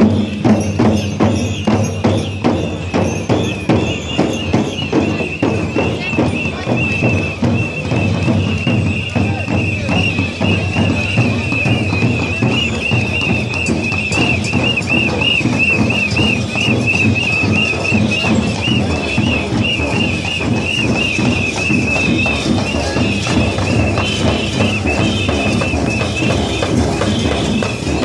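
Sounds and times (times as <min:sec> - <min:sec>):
drumming: 0:00.0 - 0:28.0
shrill whistle: 0:00.0 - 0:28.0.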